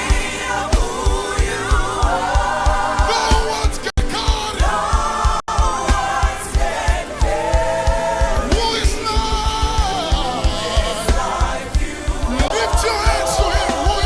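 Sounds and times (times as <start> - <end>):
kick drum beat: 0.0 - 14.0
voices singing over a band: 0.0 - 14.0.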